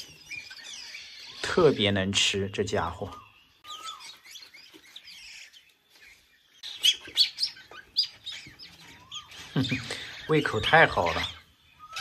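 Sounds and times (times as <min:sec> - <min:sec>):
nestlings begging chirps: 0:00.0 - 0:12.0.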